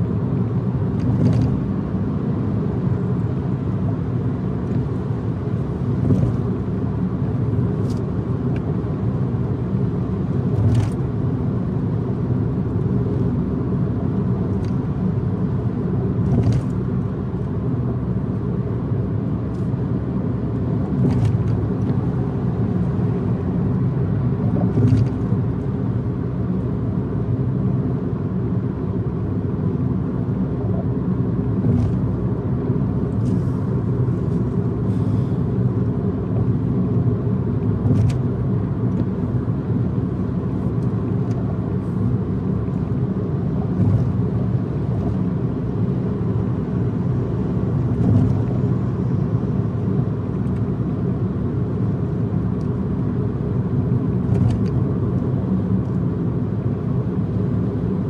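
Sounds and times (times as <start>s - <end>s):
car driving at speed: 0.0s - 58.0s.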